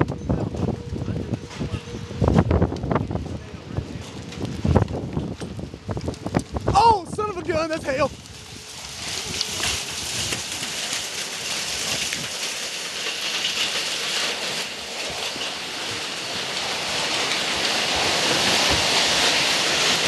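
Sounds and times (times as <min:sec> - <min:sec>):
hail and rain pelting down: 0:02.2 - 0:20.0.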